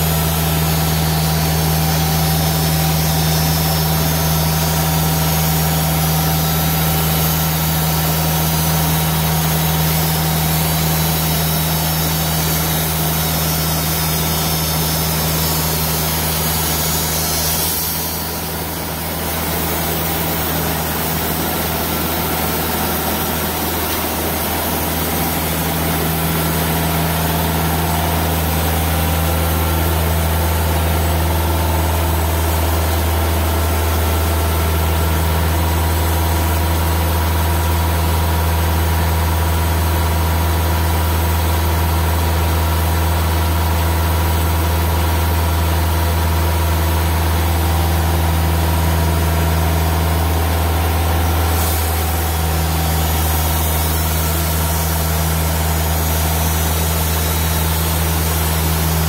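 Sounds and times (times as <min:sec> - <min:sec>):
bandsaw mill running: 0:00.0 - 0:59.0.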